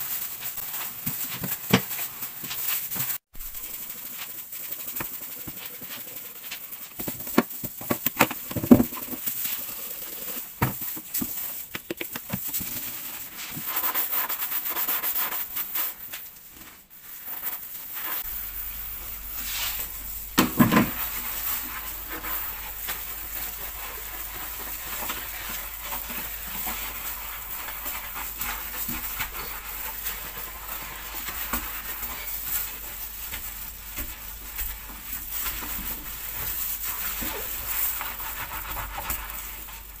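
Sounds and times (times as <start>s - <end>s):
rubbing and scraping: 0.0s - 40.0s.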